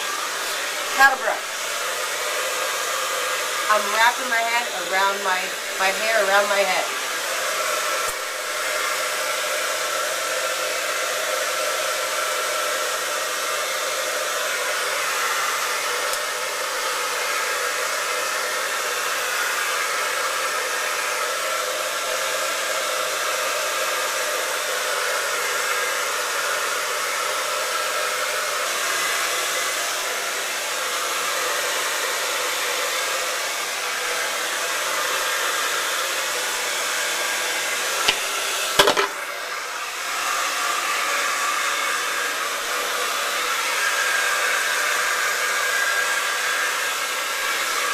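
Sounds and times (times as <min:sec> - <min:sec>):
hair dryer blowing: 0:00.0 - 0:47.9.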